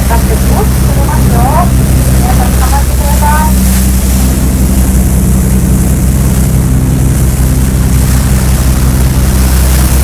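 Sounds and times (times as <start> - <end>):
boat engine droning: 0.0 - 10.0
wind and water rushing: 0.0 - 10.0.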